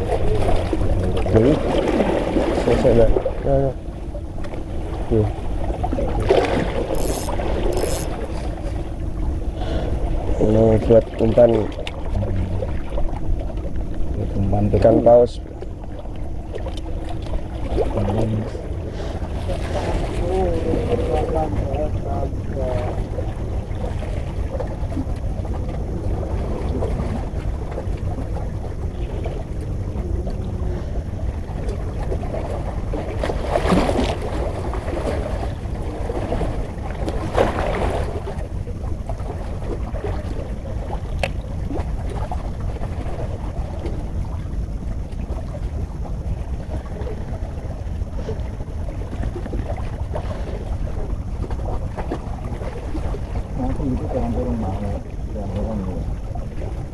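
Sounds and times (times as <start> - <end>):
wind rumbling on microphone: 0.0 - 56.9.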